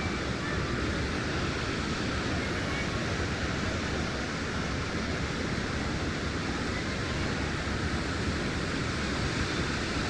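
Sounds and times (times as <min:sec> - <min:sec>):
large waterfall rushing: 0:00.0 - 0:10.0.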